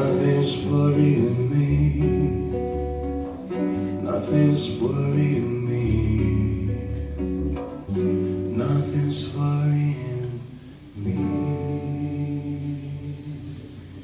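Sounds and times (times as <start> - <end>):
guitar chords: 0.0 - 14.0.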